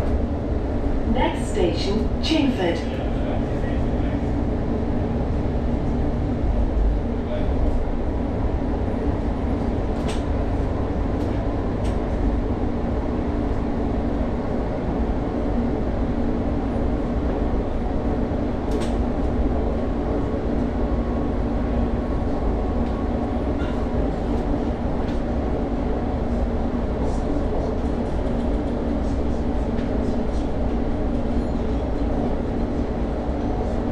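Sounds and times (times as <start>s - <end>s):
electric train rumbling at speed: 0.0s - 33.9s.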